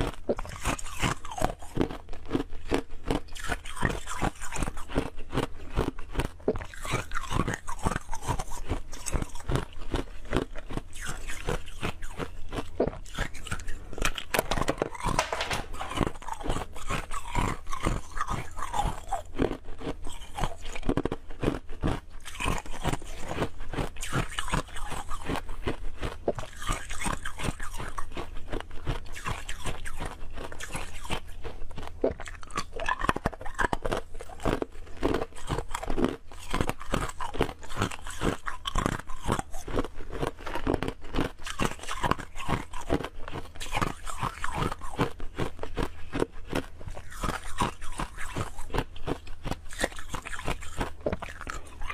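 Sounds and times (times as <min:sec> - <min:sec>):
ice cubes crunched between teeth: 0:00.0 - 0:51.9.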